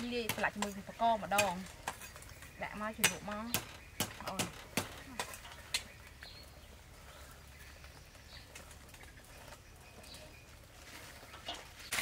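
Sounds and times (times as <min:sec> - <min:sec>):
faint outdoor ambience: 0:00.0 - 0:12.0
soft bird chirps: 0:00.0 - 0:12.0.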